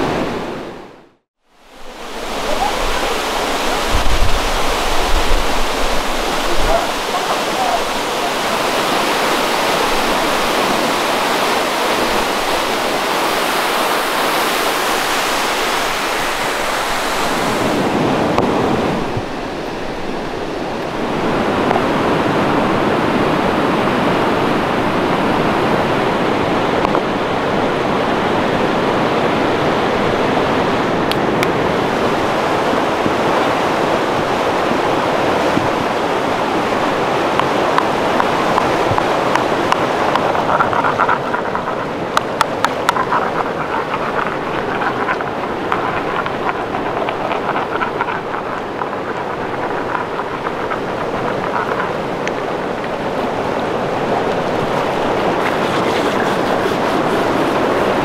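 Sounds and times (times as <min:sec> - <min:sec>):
rushing stream water: 0:00.0 - 0:58.0.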